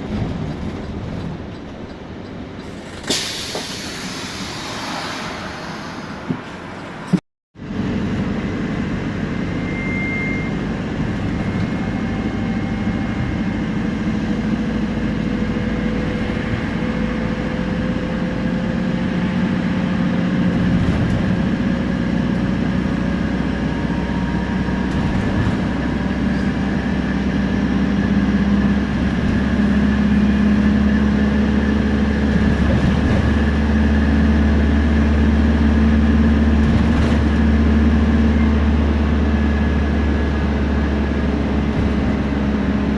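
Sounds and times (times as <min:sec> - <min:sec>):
bus diesel engine droning: 0:00.0 - 0:42.9.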